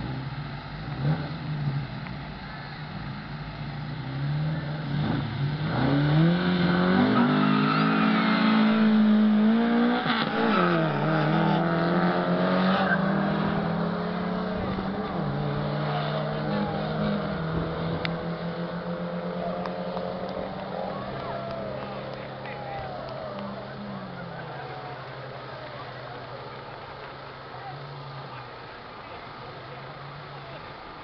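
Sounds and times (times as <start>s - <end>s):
car engines revving and accelerating: 0.0s - 31.0s.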